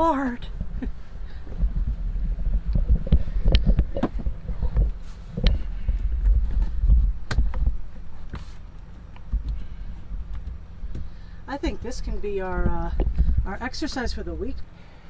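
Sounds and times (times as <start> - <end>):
bedding rustling: 0.0 - 14.3
heavy low bumps: 0.0 - 15.0.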